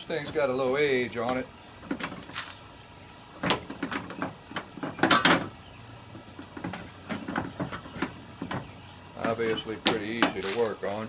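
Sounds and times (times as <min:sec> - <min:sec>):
hose reel parts knocking: 0:00.0 - 0:02.6, 0:03.3 - 0:11.0.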